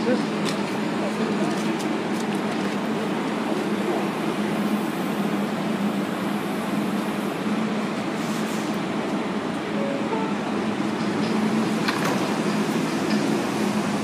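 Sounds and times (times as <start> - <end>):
subway car equipment hum: 0.0 - 14.0.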